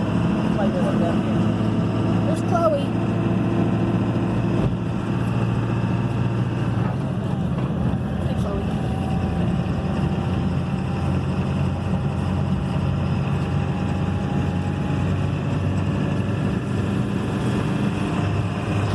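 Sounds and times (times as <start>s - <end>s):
truck engine and road rumble: 0.0s - 18.9s.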